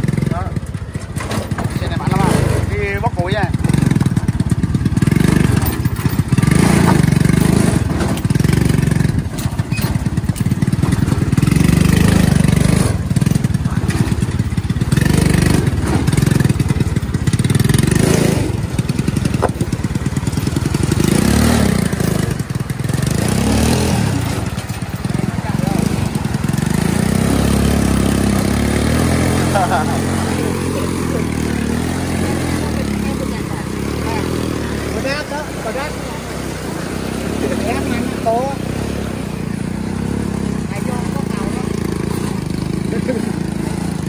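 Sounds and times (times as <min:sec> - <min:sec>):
tractor engine running under load: 0:00.0 - 0:44.0.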